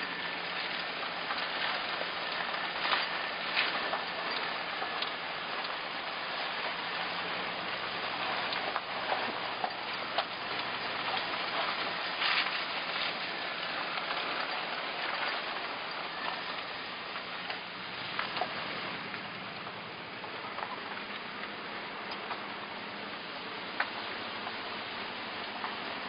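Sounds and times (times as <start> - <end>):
tyre and road noise: 0.0 - 26.0
small ticks and pops: 0.1 - 17.6, 18.2 - 22.6, 23.7 - 25.9.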